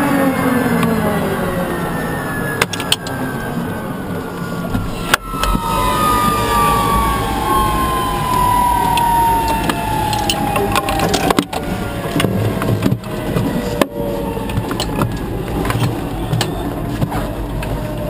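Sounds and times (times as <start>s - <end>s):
turbine engine whine spooling down: 0.0s - 18.0s
low rumble: 1.0s - 18.0s.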